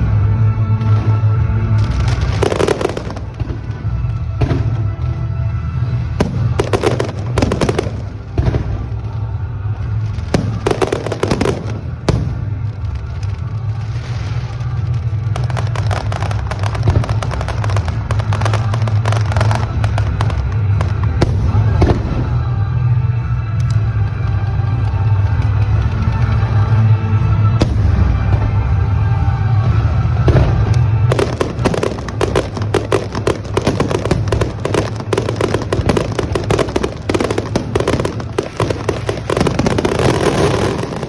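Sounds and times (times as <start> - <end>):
background music: 0.0 - 41.0
fireworks crackling bursts: 0.0 - 41.0.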